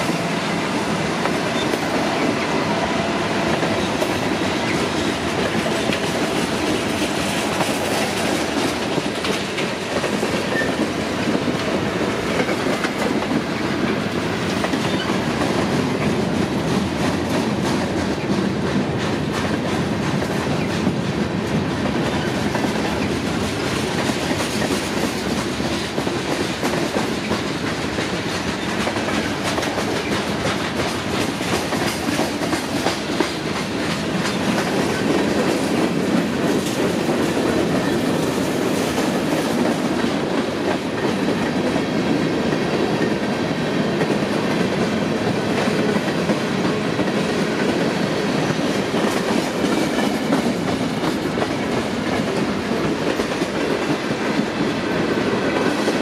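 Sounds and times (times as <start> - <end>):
clickety-clack over rail joints: 0.0 - 56.0
freight train wheels rumbling: 0.0 - 56.0.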